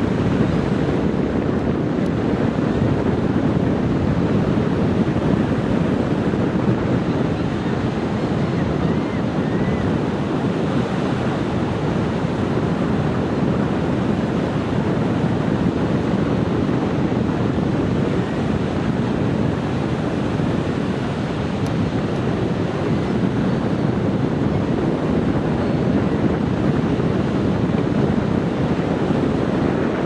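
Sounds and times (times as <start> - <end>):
ocean surf on beach: 0.0 - 30.0
wind buffeting microphone: 0.0 - 30.0.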